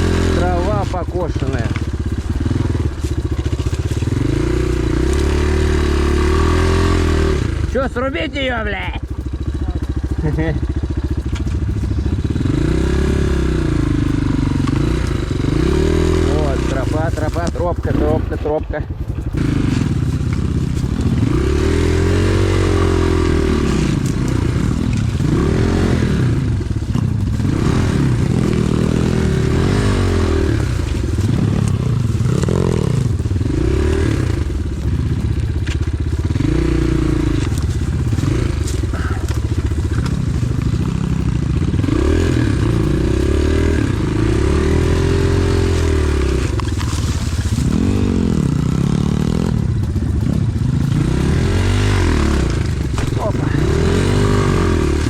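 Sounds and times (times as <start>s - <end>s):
pit bike engine revving: 0.0s - 55.0s.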